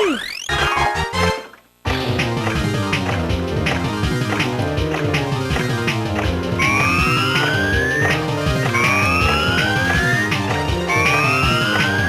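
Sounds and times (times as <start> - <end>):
electronic game music: 0.0 - 12.0.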